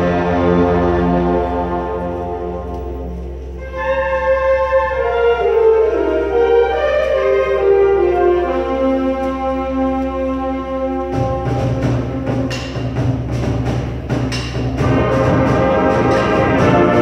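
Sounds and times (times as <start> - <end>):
band melody: 0.0 - 17.0
concert band chords: 0.0 - 17.0.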